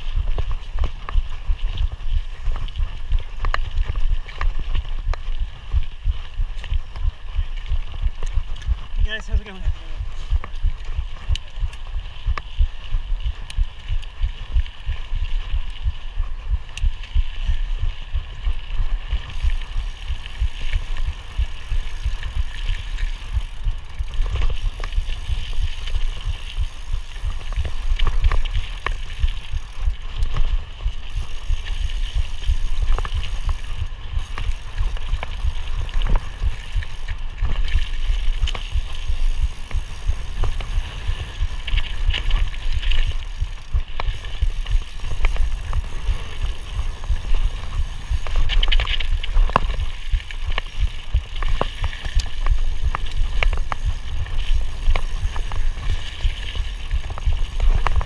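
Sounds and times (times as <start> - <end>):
bike clicks and knocks: 0.0 - 58.0
bike rolling on trail rumble: 0.0 - 58.0.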